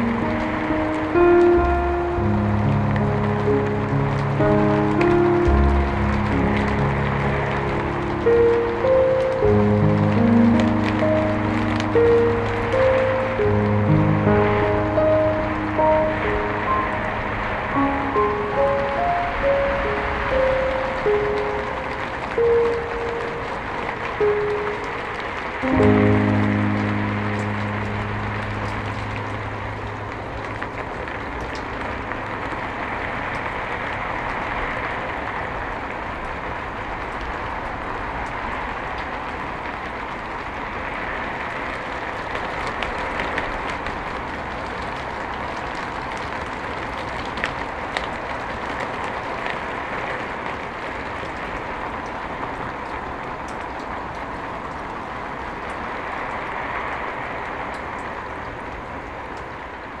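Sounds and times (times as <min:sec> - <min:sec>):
rain drop ticks: 0:00.0 - 1:00.0
steady rain falling: 0:00.0 - 1:00.0.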